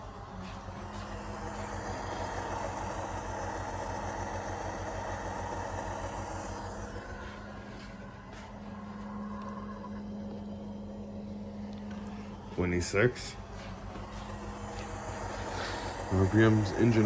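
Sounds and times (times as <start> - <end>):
diesel engine chugging through speaker: 0.0 - 17.0.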